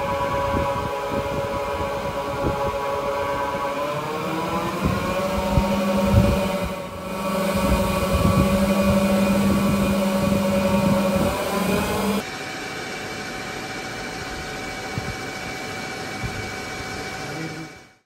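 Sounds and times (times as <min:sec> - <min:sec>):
machine spindle hum and whine: 0:00.0 - 0:18.0.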